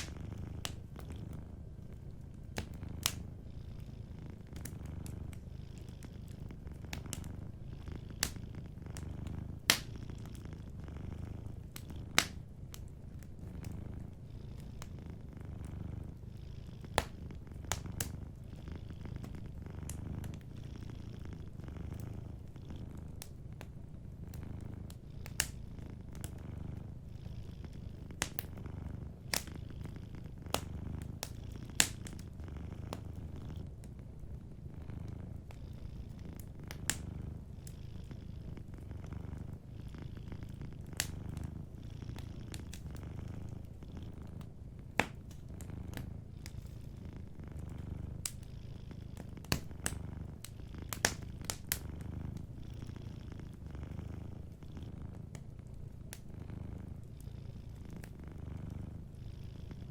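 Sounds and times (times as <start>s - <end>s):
wood fire crackling: 0.0s - 34.0s, 34.9s - 52.5s
cat purring: 0.0s - 59.9s.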